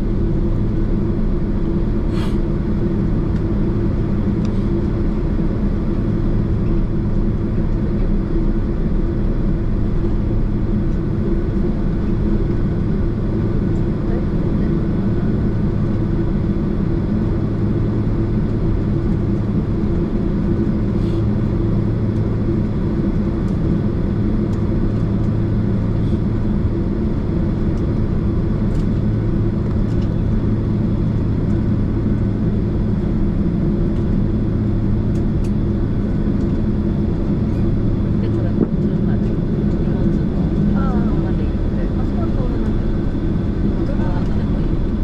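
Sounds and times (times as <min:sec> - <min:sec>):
aircraft engines idling hum: 0:00.0 - 0:45.0.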